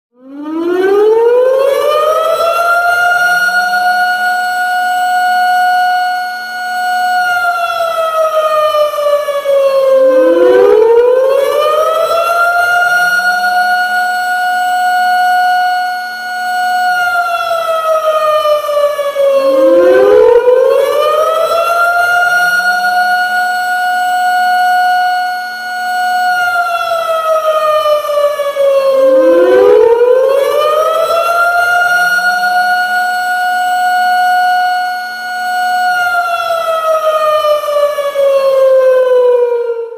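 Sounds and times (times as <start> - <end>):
warning siren wailing: 0.1 - 39.9.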